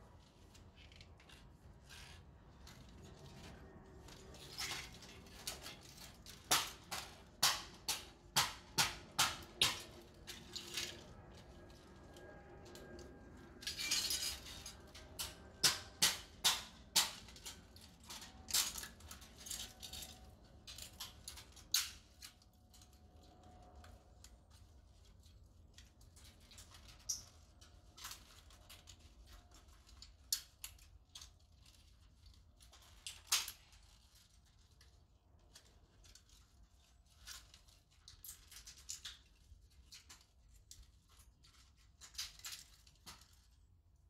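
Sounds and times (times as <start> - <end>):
plastic cracking and snapping: 2.4 - 12.0, 14.8 - 43.8.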